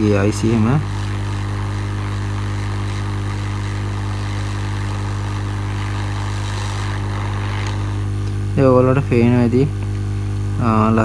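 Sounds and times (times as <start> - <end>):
hot air gun blowing steadily: 0.0 - 11.0.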